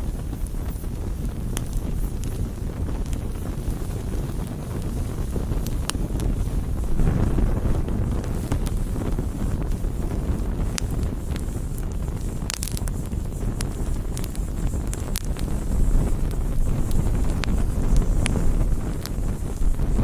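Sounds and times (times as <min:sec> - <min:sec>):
burning wood crackling and popping: 0:00.0 - 0:20.0
wood fire roaring: 0:00.0 - 0:20.0.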